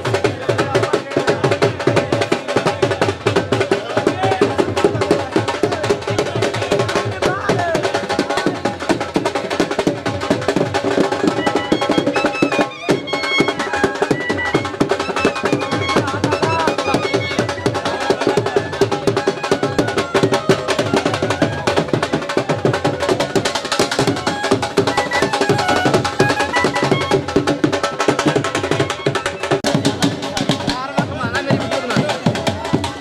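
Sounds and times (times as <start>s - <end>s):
drums beaten in fast rhythm: 0.0s - 33.0s.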